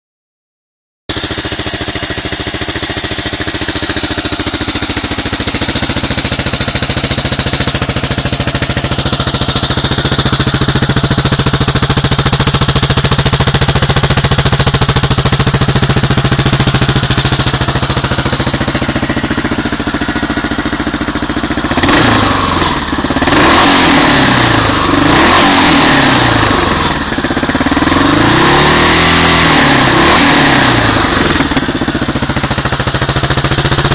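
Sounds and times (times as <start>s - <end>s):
motorcycle engine idling and revving: 1.1s - 33.9s.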